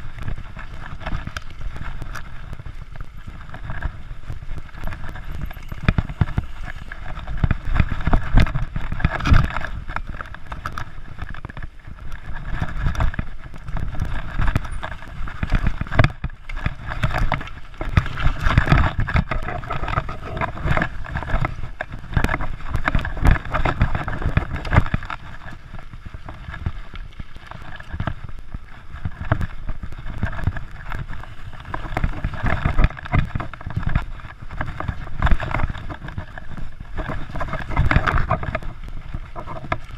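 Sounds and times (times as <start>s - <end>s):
bike rattling over bumps: 0.0s - 39.9s
bike tyres rumbling on dirt: 0.0s - 39.9s.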